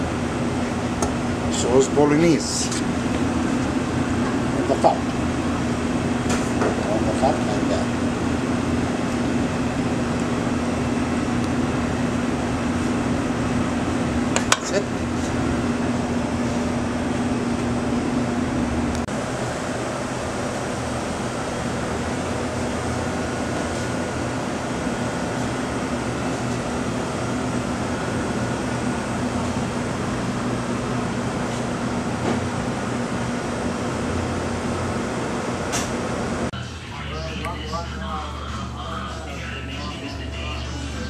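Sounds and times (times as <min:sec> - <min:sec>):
ventilation machinery hum: 0:00.0 - 0:41.0.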